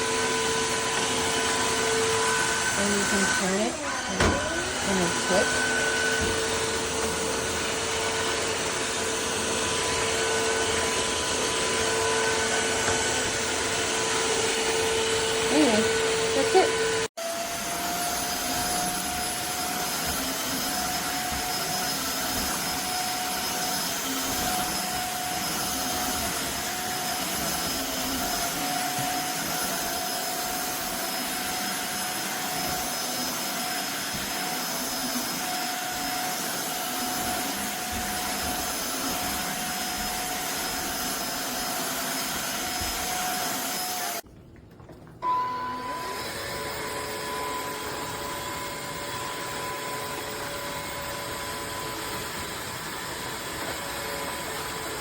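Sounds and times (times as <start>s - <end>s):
floor cleaner motor whine: 0.0s - 44.2s, 45.2s - 55.0s.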